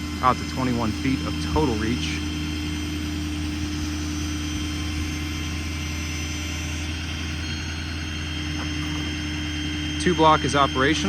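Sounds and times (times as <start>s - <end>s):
diesel engine drone: 0.0s - 11.0s
hydraulic pump whine: 0.0s - 11.0s.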